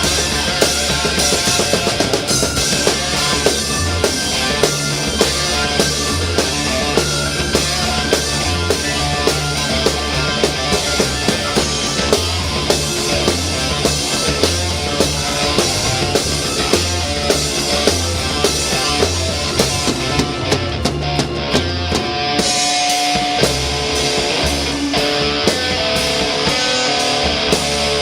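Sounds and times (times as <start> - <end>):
heavy rock music: 0.0 - 28.0.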